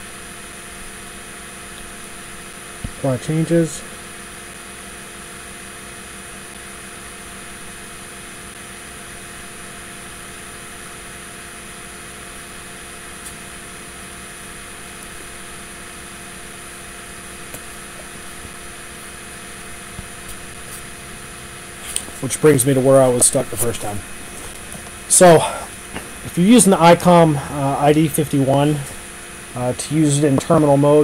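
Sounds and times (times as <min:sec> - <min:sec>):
background hum and hiss: 0:00.0 - 0:31.0.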